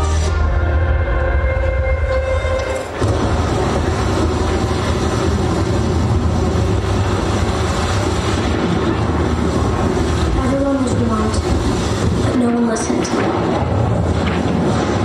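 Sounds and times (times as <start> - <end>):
stormy sea waves rumbling: 2.9 - 15.0.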